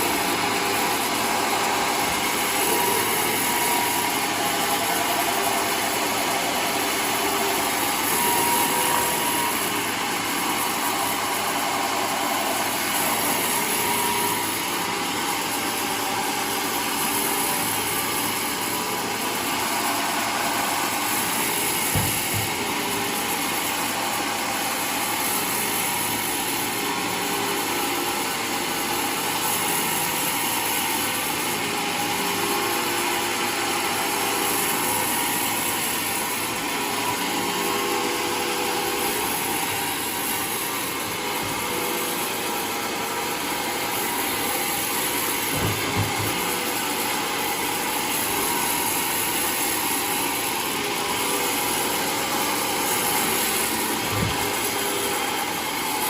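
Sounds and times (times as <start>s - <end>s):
sawmill sawing log: 0.0s - 56.0s.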